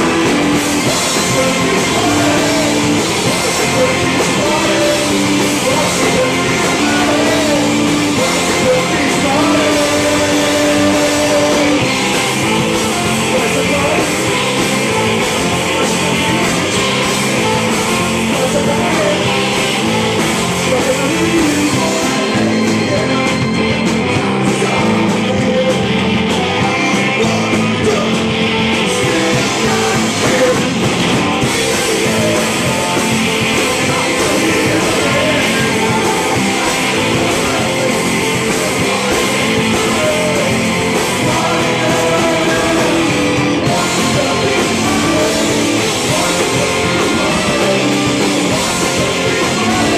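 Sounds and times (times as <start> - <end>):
bass guitar: 0.0 - 49.9
drums: 0.0 - 49.9
electric guitar: 0.0 - 49.9
man singing: 0.0 - 49.9.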